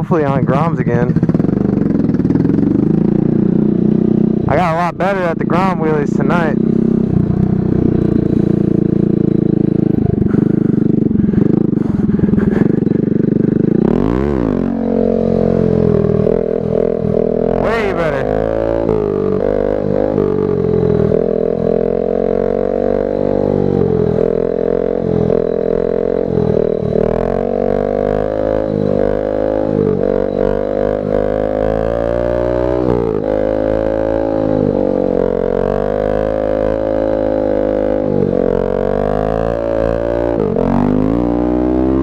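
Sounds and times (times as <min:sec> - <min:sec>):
motorcycle engine drone: 0:00.0 - 0:42.0.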